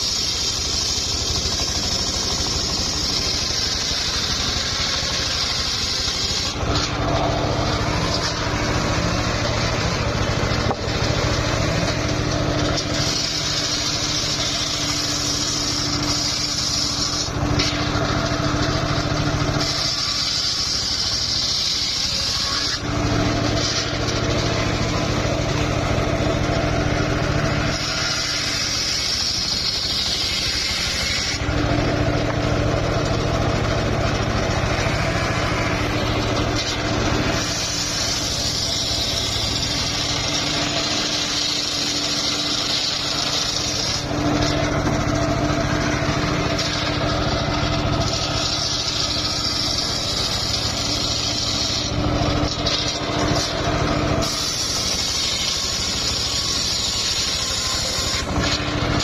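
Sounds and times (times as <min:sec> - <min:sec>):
saw blade cutting wood hiss: 0:00.0 - 0:59.0
sawmill droning: 0:00.0 - 0:59.0.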